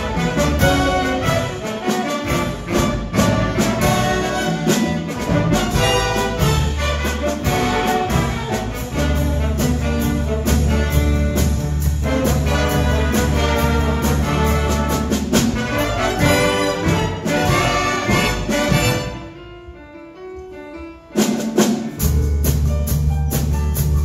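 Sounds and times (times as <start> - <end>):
jazz big band playing: 0.0 - 24.0.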